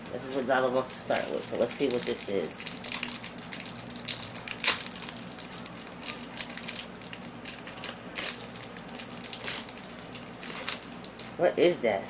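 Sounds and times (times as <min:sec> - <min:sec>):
plastic snack packet crinkling: 0:00.4 - 0:11.4.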